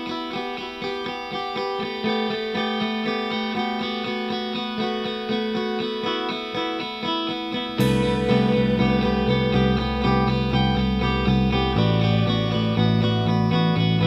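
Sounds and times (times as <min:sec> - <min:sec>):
electric guitar picked notes: 0:00.0 - 0:14.0.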